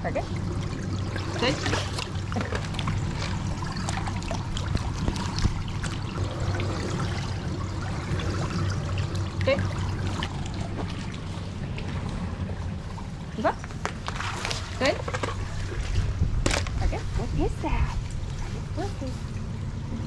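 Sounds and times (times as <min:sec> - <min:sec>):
steady low hum: 0:00.0 - 0:20.0
water trickling and lapping: 0:00.0 - 0:20.0.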